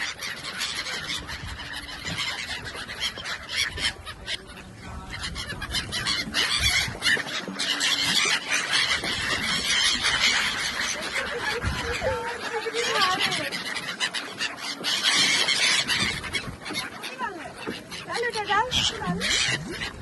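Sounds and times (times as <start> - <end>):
waterbirds calling shrilly: 0.0 - 20.0.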